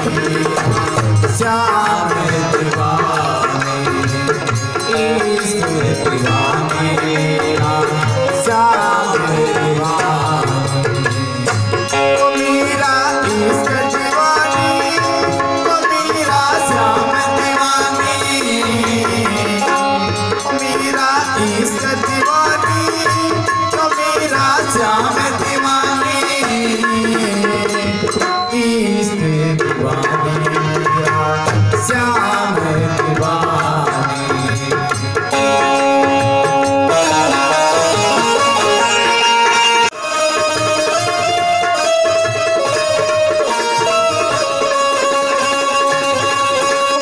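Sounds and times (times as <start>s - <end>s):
hand drum rhythm: 0.0s - 47.0s
harmonium melody: 0.0s - 47.0s.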